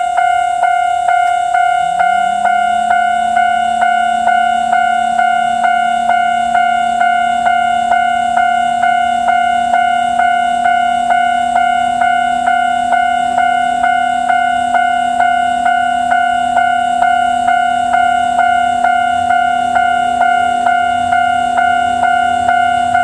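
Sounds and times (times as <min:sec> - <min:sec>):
level-crossing warning bell: 0:00.0 - 0:23.0.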